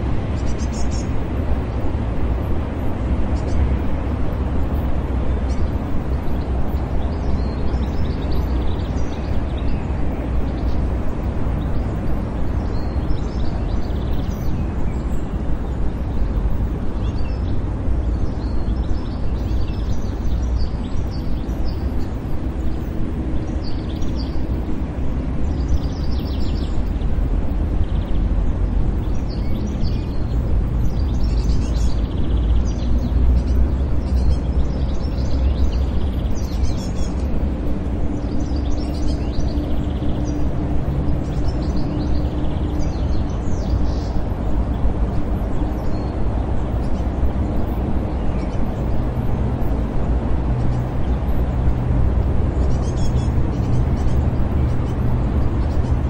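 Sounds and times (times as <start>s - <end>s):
distant traffic rumble: 0.0s - 56.0s
birds chirping: 2.4s - 56.0s.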